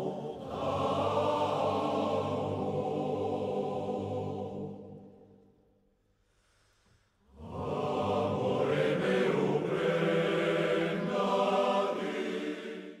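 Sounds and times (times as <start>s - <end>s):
voices chanting long notes: 0.0s - 5.3s, 7.4s - 13.0s.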